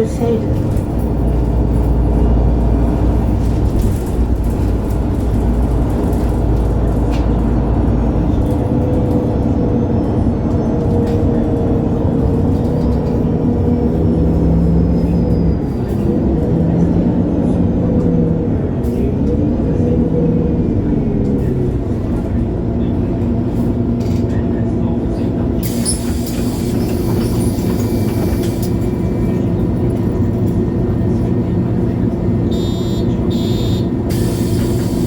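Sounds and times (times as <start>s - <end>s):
bus engine rumble from inside: 0.0s - 35.0s.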